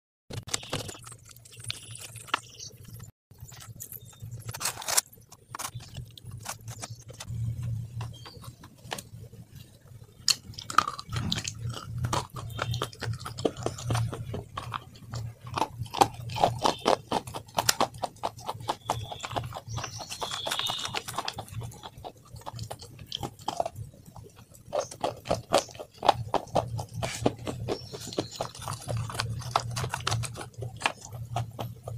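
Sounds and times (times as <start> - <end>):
low steady hum: 0.3 - 31.9
person chewing food: 0.4 - 31.9.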